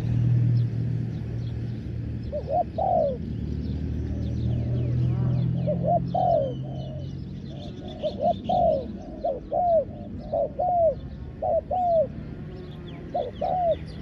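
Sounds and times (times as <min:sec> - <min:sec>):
small birds chirping: 0:00.0 - 0:14.0
doves cooing: 0:02.2 - 0:14.0.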